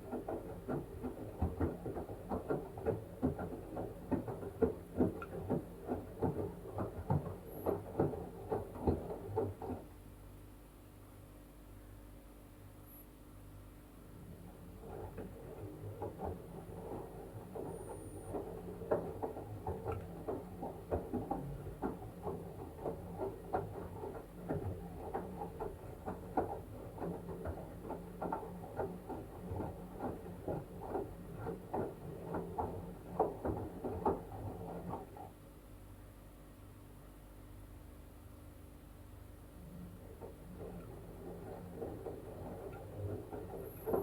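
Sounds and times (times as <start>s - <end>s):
water sloshing in washing machine: 0.0s - 10.0s, 14.0s - 35.4s, 39.4s - 44.0s
washing machine hum: 0.0s - 44.0s.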